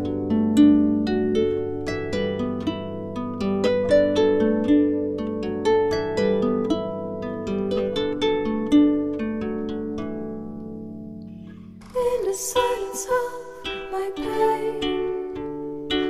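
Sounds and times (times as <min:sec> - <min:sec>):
plucked harp-like strings melody: 0:00.0 - 0:16.0.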